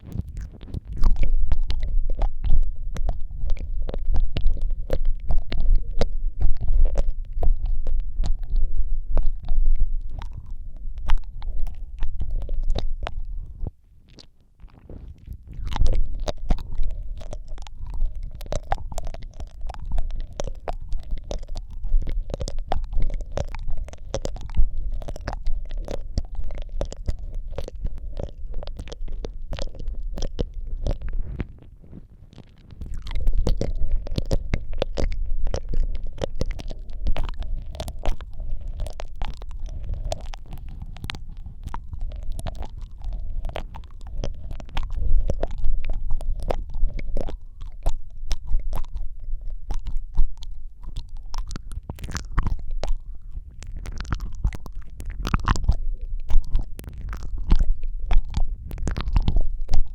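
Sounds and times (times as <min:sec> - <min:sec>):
low microphone rumble: 0:00.0 - 0:59.9
wet mouth sounds: 0:00.0 - 0:59.9.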